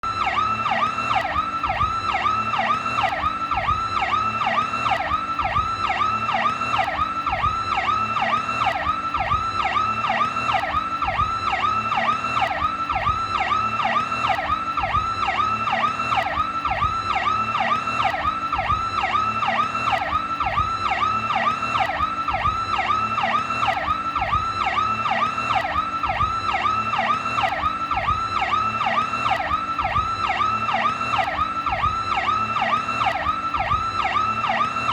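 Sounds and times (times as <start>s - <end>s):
police car siren: 0.0s - 34.9s.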